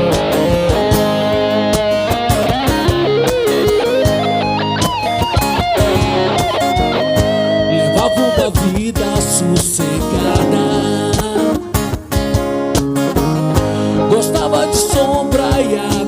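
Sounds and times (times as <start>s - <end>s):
bass guitar: 0.0s - 16.0s
lead guitar melody: 0.0s - 16.0s.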